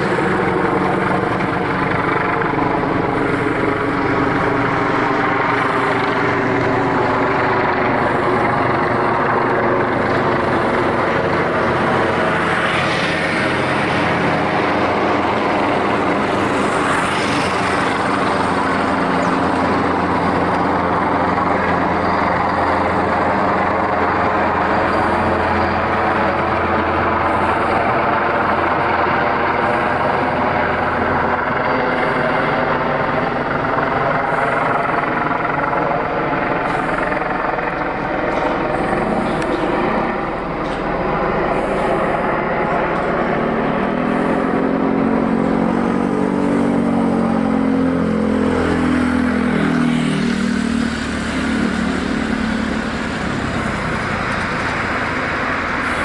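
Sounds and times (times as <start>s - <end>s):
helicopter flying overhead: 0.0s - 56.0s.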